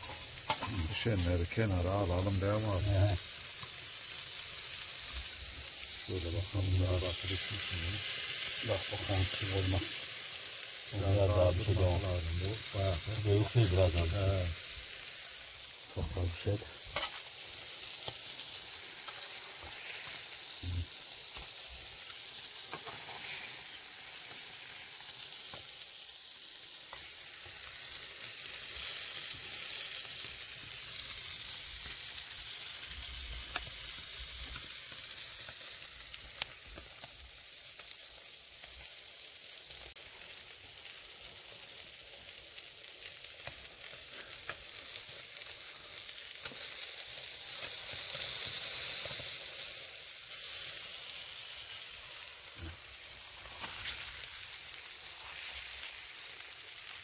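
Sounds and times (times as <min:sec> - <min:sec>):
fish sizzling on a grill: 0:00.0 - 0:57.0.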